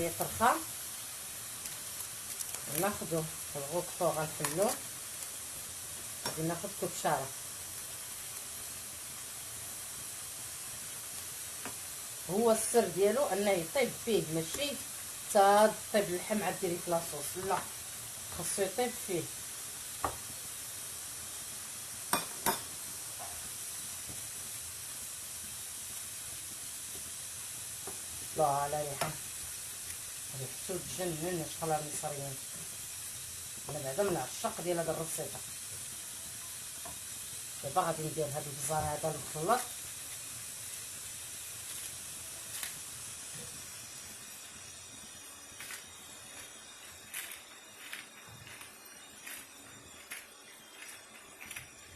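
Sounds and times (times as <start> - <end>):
steak sizzling in a frying pan: 0.0 - 51.9.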